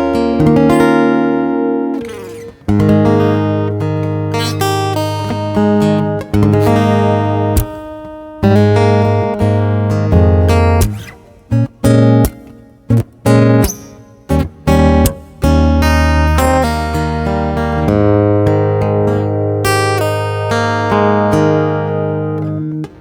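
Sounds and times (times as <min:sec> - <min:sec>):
acoustic guitar strumming: 0:00.0 - 0:23.0
short choked guitar chords: 0:00.0 - 0:23.0.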